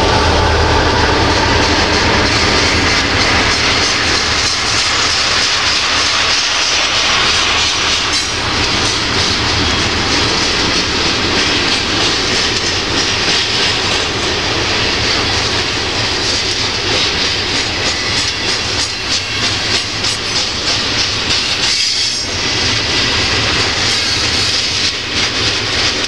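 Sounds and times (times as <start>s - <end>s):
freight train rolling past: 0.0s - 26.0s
wheels clicking over rail joints: 0.0s - 26.0s.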